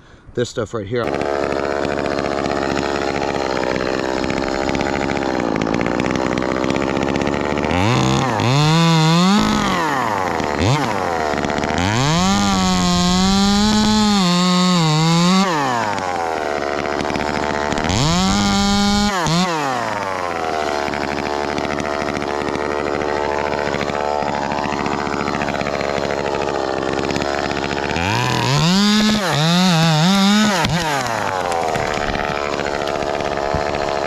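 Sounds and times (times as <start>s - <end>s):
chainsaw revving: 1.0s - 34.0s.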